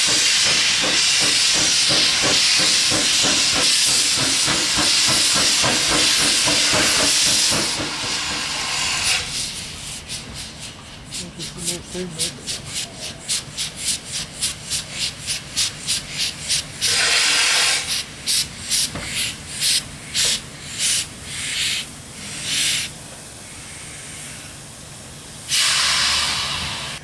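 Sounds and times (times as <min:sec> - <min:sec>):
loud steam hiss: 0:00.0 - 0:27.0
steam exhaust chuffs: 0:00.0 - 0:27.0.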